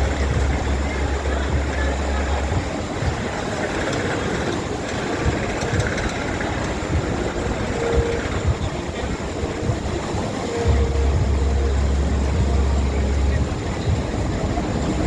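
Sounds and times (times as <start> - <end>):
roller coaster rumbling on track: 0.0 - 15.0
wind noise on microphone: 0.0 - 15.0.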